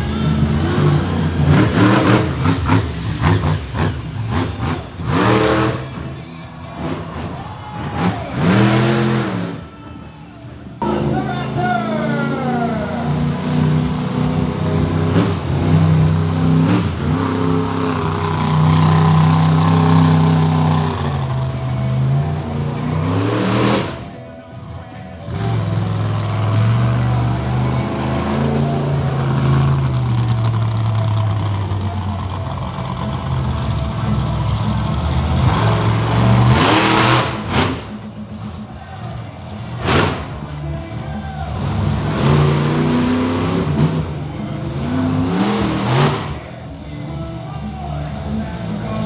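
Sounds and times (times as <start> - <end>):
truck engine revving: 0.0 - 49.0.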